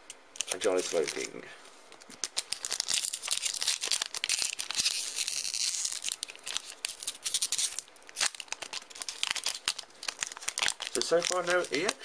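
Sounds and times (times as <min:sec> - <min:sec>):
foil wrappers crinkling: 0:00.4 - 0:12.0.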